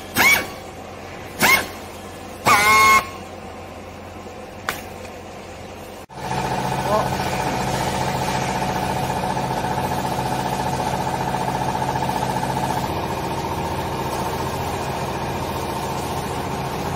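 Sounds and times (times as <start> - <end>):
hydraulic pump motor humming: 0.0 - 16.9.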